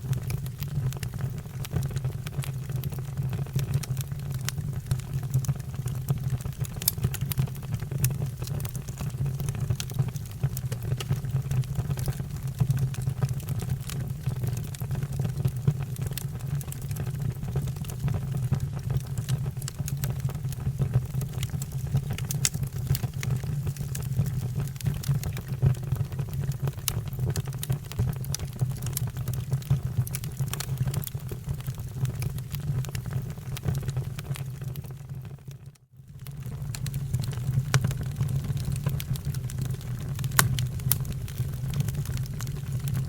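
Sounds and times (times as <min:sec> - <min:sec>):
fire flames rumbling: 0:00.0 - 0:35.0, 0:36.2 - 0:43.0
fire crackling and popping: 0:00.0 - 0:43.0.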